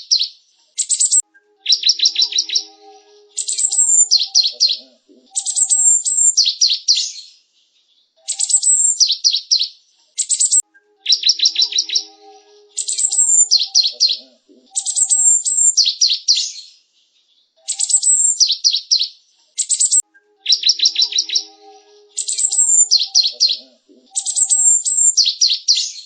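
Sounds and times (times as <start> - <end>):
bird chattering and whistling: 0.8 - 7.1, 8.2 - 9.6, 10.2 - 16.5, 17.6 - 19.0, 19.6 - 25.9.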